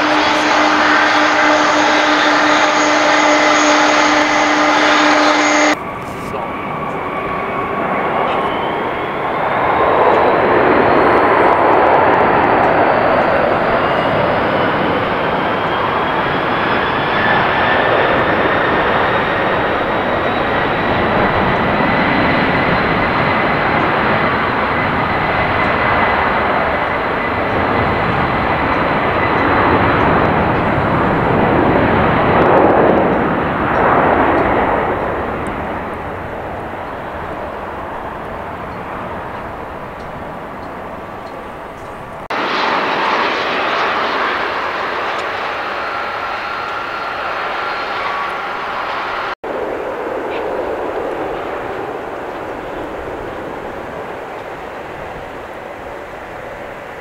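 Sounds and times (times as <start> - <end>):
jet engines whining on takeoff: 0.0 - 57.0.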